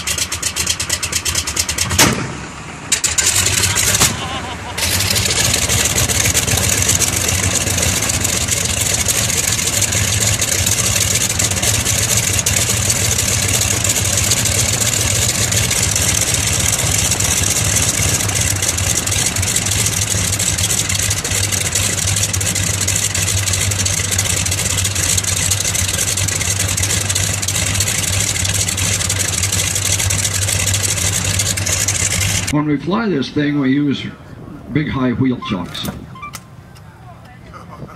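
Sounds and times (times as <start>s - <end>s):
radial aircraft engine running: 0.0s - 34.8s.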